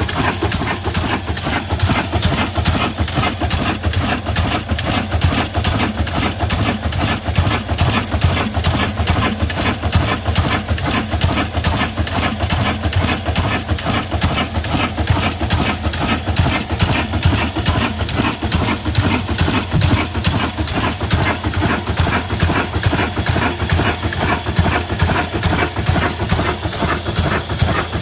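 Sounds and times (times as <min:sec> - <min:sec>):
diesel engine knocking: 0:00.0 - 0:28.0.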